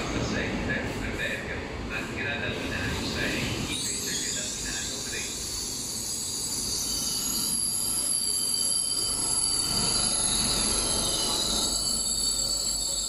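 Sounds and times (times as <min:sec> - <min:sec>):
train wheels rumbling: 0:00.0 - 0:13.0
train whining and squealing: 0:02.0 - 0:13.0.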